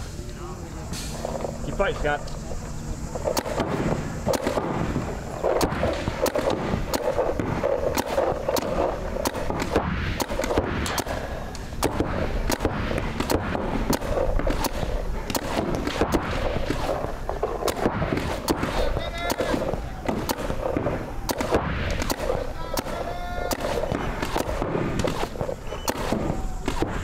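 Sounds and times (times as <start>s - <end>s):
paintball markers firing: 3.2s - 27.0s.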